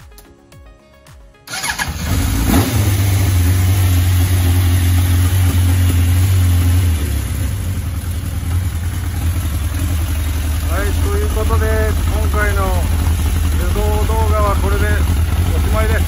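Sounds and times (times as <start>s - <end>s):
motorcycle engine starting: 1.5s - 16.0s.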